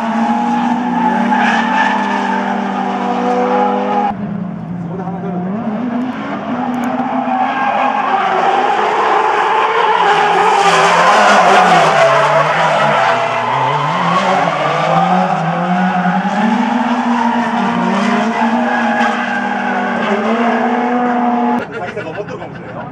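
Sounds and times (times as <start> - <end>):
tyres skidding and squealing: 0.0 - 4.2, 4.8 - 22.9
car engines at high revs: 0.0 - 21.7.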